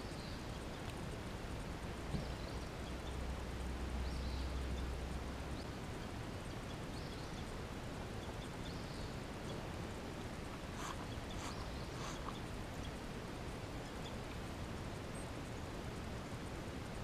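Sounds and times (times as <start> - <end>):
faint bird chirping: 0.0 - 17.0
outdoor background hiss: 0.0 - 17.0.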